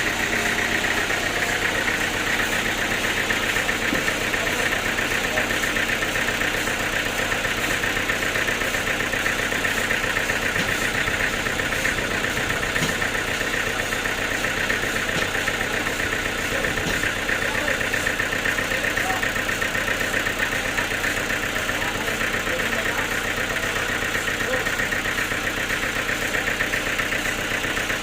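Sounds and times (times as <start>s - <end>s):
sawmill engine running pulsing: 0.0s - 28.0s.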